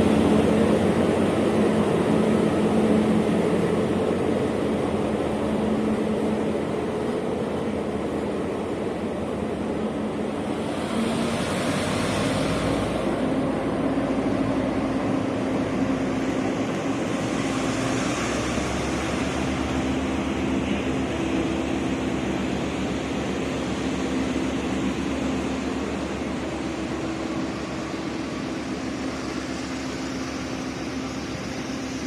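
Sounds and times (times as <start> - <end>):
diesel locomotive engine drone: 0.0 - 32.0.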